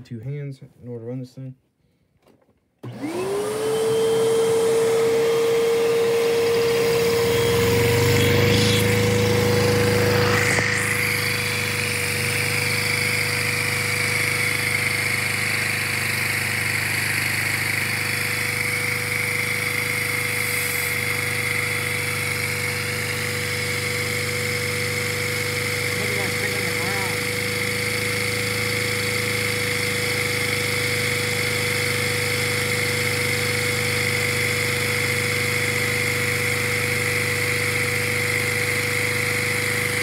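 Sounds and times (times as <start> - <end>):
vacuum cleaner motor whining: 2.8 - 40.0.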